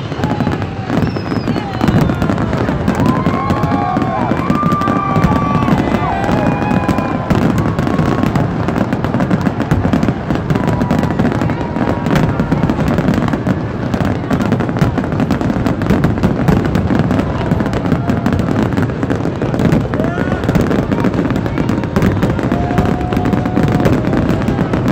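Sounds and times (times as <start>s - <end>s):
fireworks bursts and crackling: 0.0s - 24.9s.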